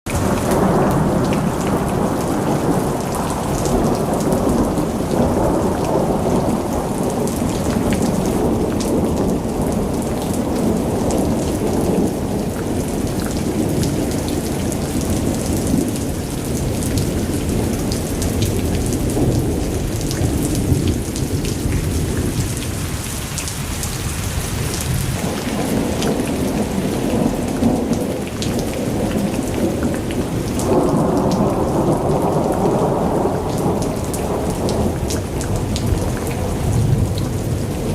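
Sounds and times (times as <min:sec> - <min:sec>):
heavy rain: 0:00.0 - 0:37.9
rolling thunder: 0:00.1 - 0:23.1, 0:23.7 - 0:37.9.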